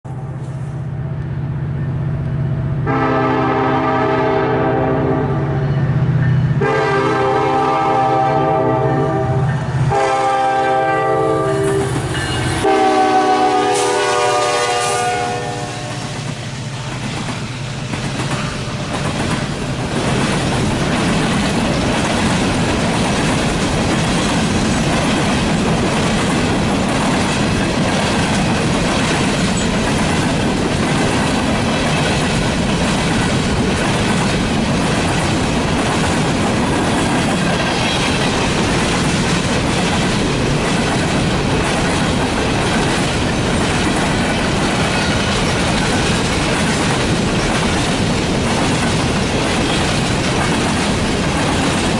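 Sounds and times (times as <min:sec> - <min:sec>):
train cars rumbling over rails: 0:00.0 - 0:51.9.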